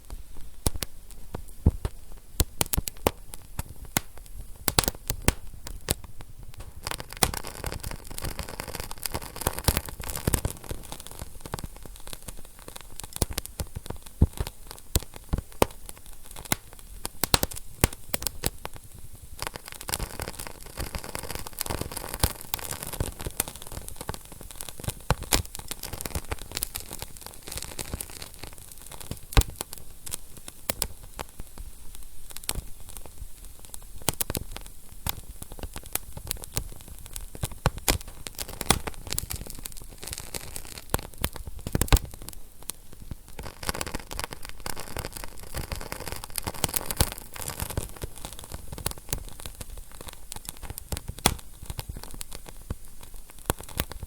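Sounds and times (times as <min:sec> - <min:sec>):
fire hissing: 0:00.0 - 0:54.0
wood fire popping and snapping: 0:00.0 - 0:54.0.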